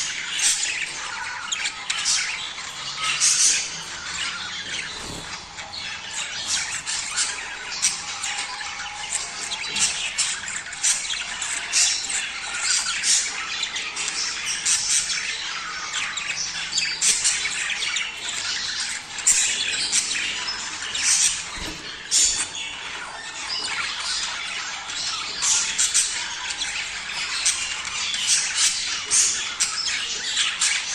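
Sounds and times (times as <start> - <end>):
budgerigars chattering and warbling: 0.0 - 30.9.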